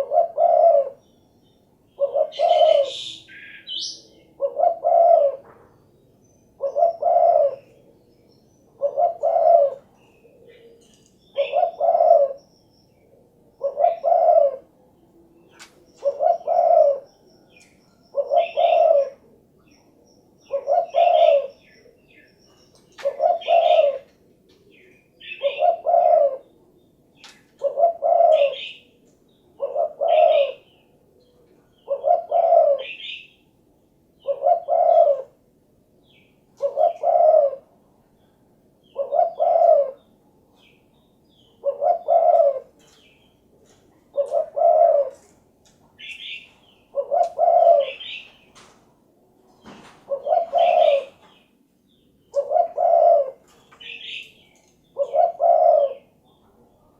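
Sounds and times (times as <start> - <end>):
dove cooing: 0.0 - 1.1, 1.9 - 5.8, 6.6 - 12.4, 13.0 - 33.4, 34.2 - 35.5, 36.1 - 38.0, 38.8 - 40.8, 41.4 - 45.4, 46.0 - 48.5, 49.8 - 51.4, 52.3 - 56.9.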